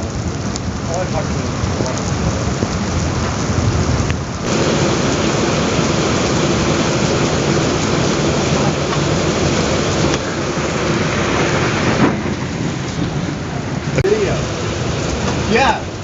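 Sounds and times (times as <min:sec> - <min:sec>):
heavy rain pouring: 0:00.0 - 0:16.0
thunder rumbling: 0:00.0 - 0:16.0.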